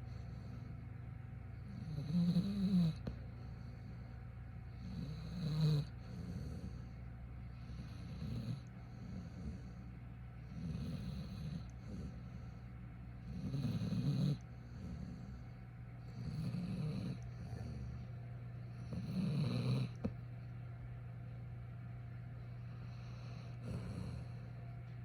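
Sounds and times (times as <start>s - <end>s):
dog snoring: 0.0s - 20.3s, 22.4s - 24.8s.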